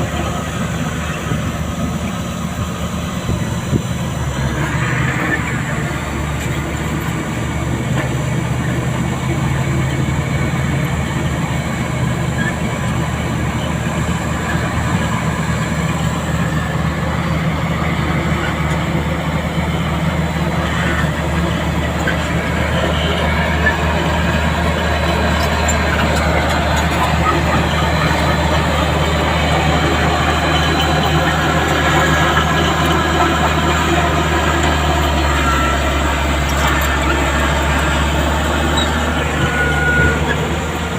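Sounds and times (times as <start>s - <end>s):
diesel machinery engine hum: 0.0s - 40.9s.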